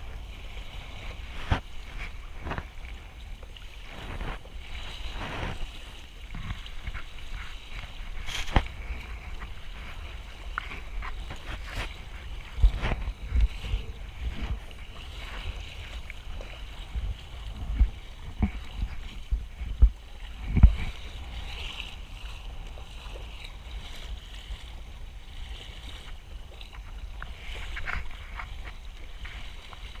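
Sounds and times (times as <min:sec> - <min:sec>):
water sloshing along hull: 0:00.0 - 0:30.0
wind buffeting microphone: 0:00.0 - 0:30.0.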